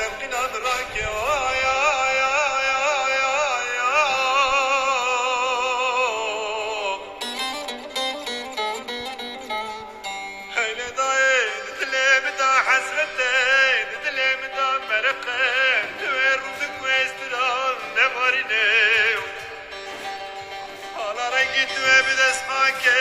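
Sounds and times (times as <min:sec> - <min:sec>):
instrumental accompaniment: 0:00.0 - 0:23.0
man singing with vibrato: 0:00.0 - 0:23.0.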